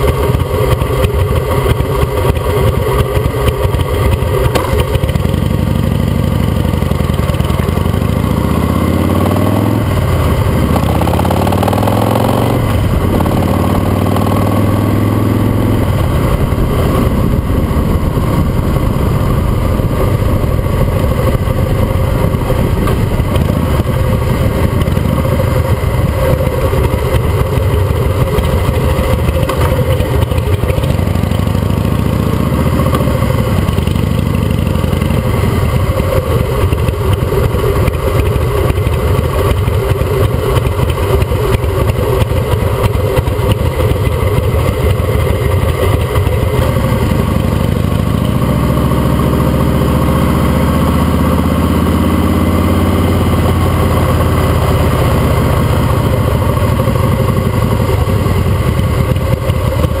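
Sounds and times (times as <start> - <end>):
motorcycle engine accelerating: 0.0 - 60.0.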